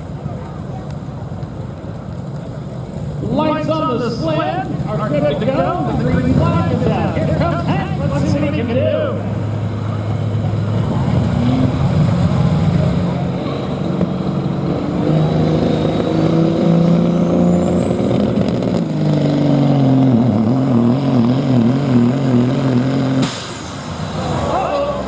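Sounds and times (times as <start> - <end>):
diesel truck engine under load: 0.0 - 25.0
turbocharger whine: 3.2 - 25.0.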